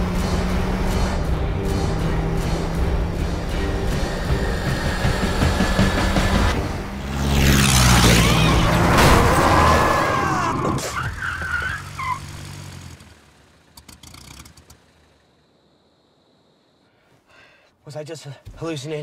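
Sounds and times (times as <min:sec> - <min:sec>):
car engines running: 0:00.0 - 0:16.8
tyres on road: 0:00.0 - 0:19.0.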